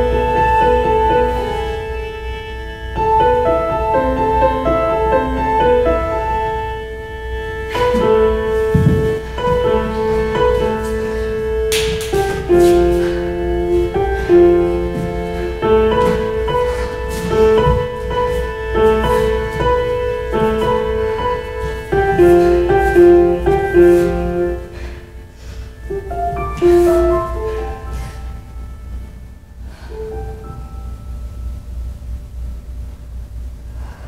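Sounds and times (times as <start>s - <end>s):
piano music: 0.0s - 33.5s.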